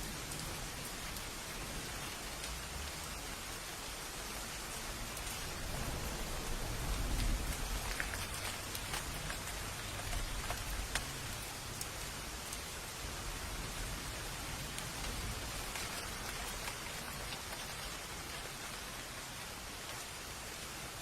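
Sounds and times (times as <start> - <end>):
raindrops ticking sharply: 0.0 - 20.1
steady rain falling: 0.0 - 21.0.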